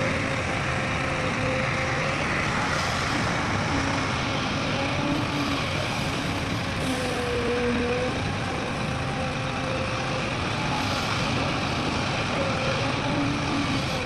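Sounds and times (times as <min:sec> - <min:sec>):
diesel engine running: 0:00.0 - 0:14.0
faint wavering hum: 0:00.0 - 0:14.0
traffic rumble: 0:00.0 - 0:14.0.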